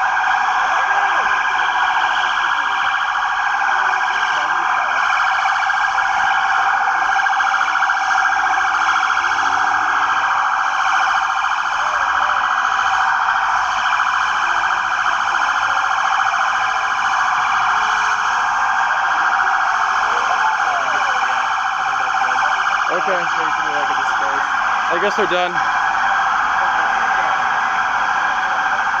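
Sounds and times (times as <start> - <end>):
police siren wailing: 0.0 - 29.0.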